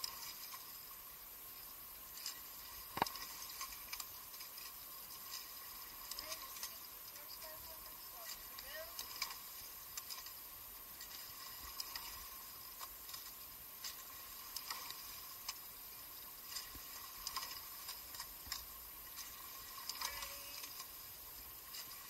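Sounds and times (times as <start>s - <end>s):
faint hiss of water under boat: 0.0s - 22.0s
light clicks from oars: 0.0s - 22.0s.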